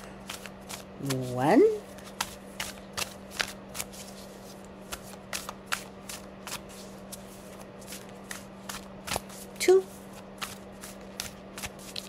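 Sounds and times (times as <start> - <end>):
steady low hum: 0.0 - 12.0
cards being shuffled: 0.2 - 12.0.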